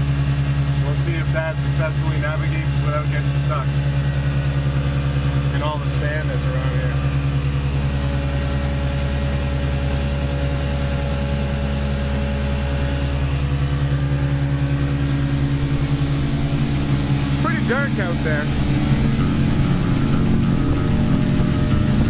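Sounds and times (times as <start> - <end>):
boat motor droning: 0.0 - 22.0.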